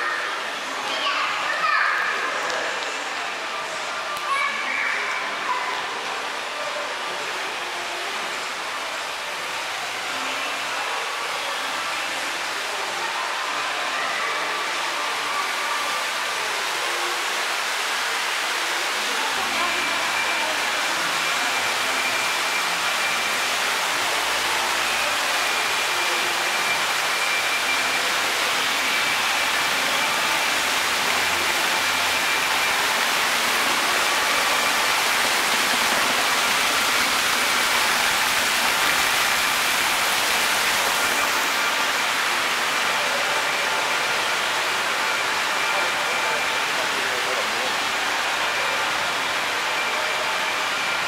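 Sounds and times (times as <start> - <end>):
fountain water splashing: 0.0 - 51.0.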